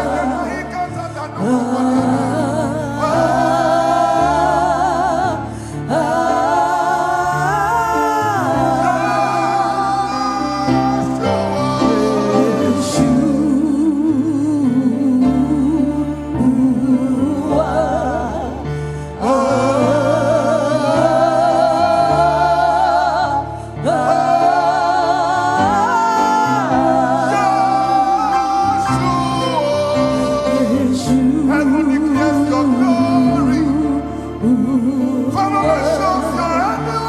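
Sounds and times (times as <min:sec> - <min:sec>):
gospel singing with vibrato: 0:00.0 - 0:37.0
instrumental accompaniment with bass: 0:00.0 - 0:37.0.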